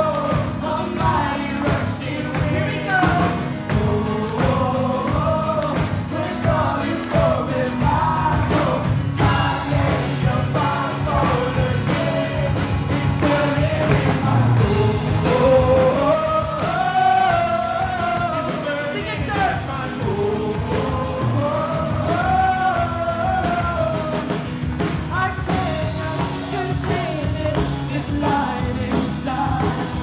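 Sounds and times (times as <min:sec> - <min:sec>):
acoustic guitar: 0:00.0 - 0:30.0
drum kit beat: 0:00.0 - 0:30.0
person singing: 0:00.0 - 0:30.0.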